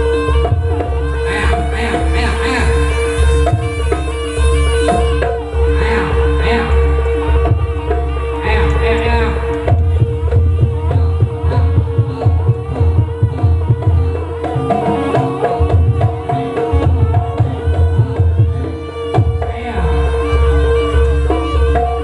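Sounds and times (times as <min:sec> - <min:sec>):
hand drums beating: 0:00.0 - 0:02.3, 0:03.4 - 0:05.5, 0:06.4 - 0:19.9.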